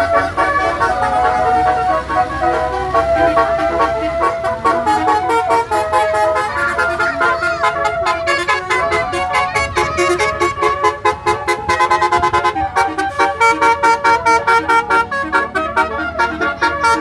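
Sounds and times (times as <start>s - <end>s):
multi-tone bus horn melody: 0.0s - 17.0s.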